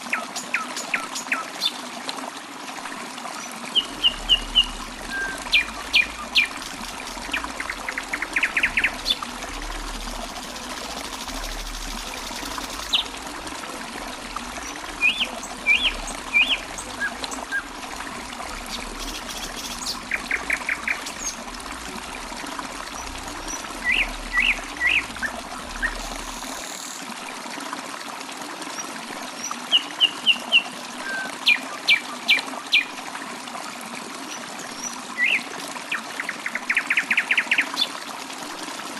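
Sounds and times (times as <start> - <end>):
trickle of running water: 0.0 - 38.9.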